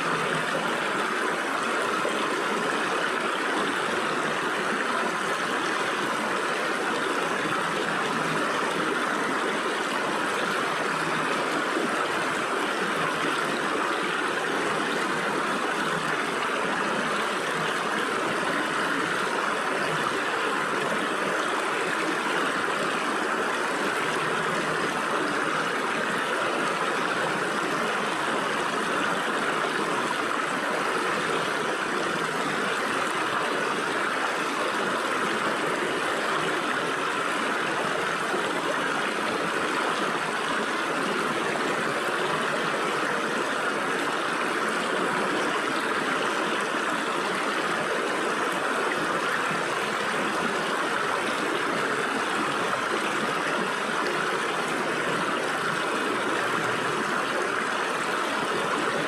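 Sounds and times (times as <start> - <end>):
stream water babbling over rocks: 0.0 - 59.0.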